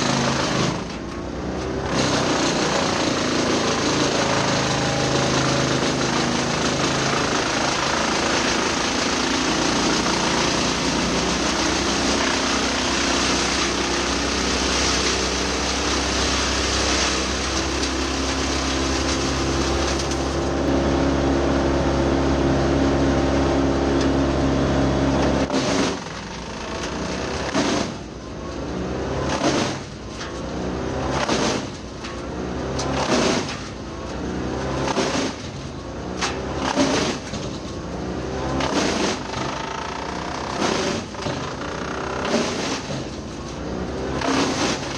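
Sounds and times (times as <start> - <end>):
tractor engine: 0.0 - 44.9
wood chipper chipping: 0.0 - 44.9.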